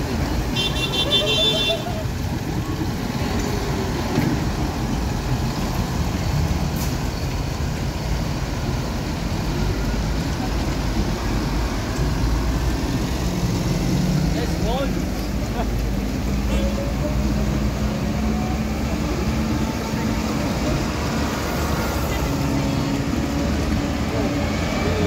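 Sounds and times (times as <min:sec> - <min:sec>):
tractor diesel engines rumbling: 0:00.0 - 0:25.0.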